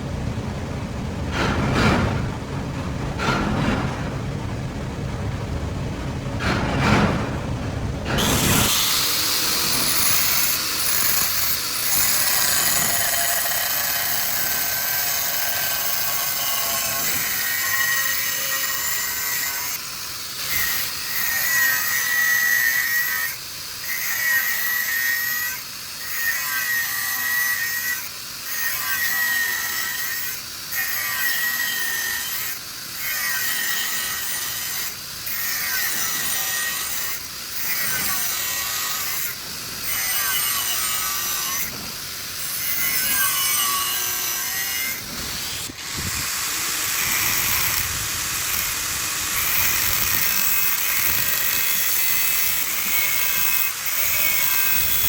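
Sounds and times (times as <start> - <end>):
power tool high whine: 8.1 - 55.0.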